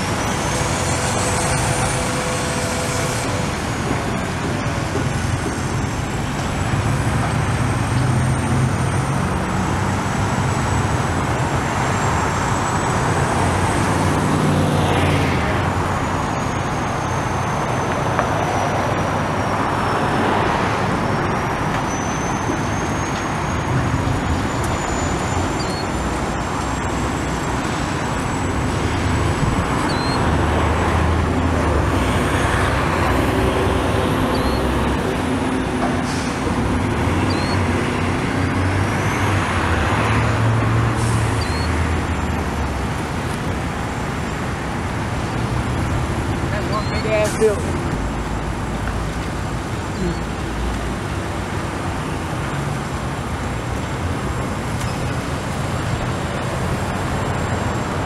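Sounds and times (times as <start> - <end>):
excavator diesel engine: 0.0 - 58.0
passing road traffic: 0.0 - 58.0
truck passing: 0.0 - 58.0.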